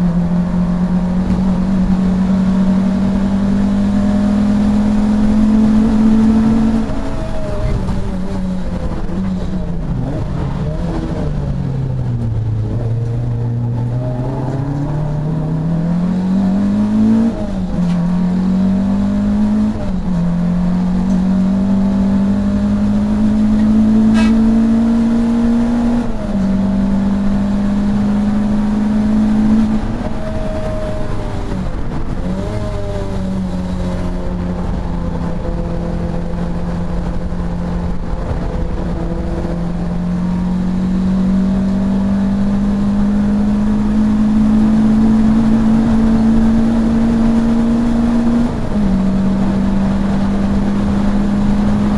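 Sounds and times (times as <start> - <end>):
racing car engine revving: 0.0 - 51.9.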